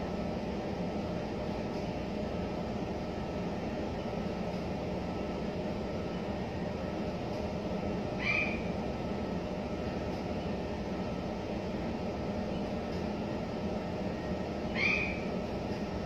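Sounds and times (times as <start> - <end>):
low background hum and hiss: 0.0 - 16.0.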